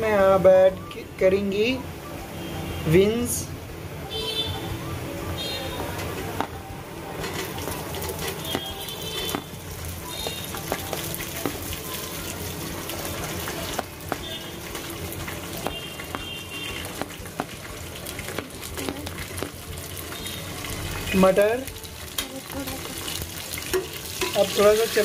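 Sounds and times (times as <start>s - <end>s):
frying sizzle: 0.0s - 25.0s.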